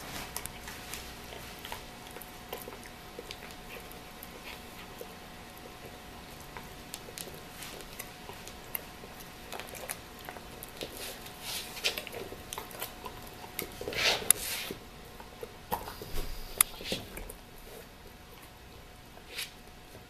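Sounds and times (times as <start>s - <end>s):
dog chewing toy: 0.0s - 20.0s.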